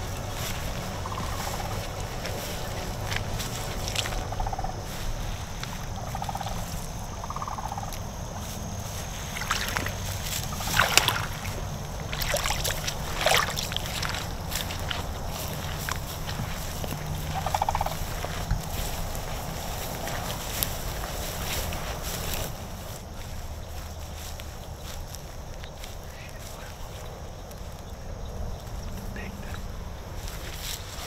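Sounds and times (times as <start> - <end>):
footsteps splashing through water: 0.0 - 31.0
wind rumble on microphone: 0.0 - 31.0.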